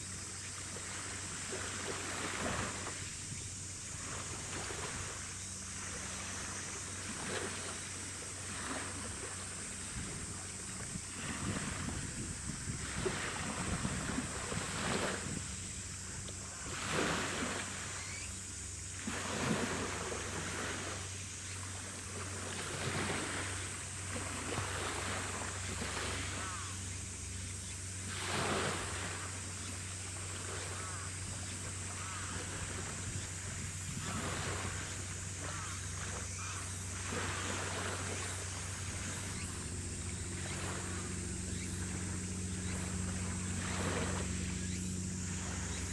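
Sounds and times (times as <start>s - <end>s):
waves washing and splashing: 0.0s - 18.2s, 18.9s - 26.7s, 28.0s - 45.9s
ship engines droning: 0.0s - 45.9s
steady low hum: 0.0s - 45.9s
wind and water hiss: 0.0s - 45.9s.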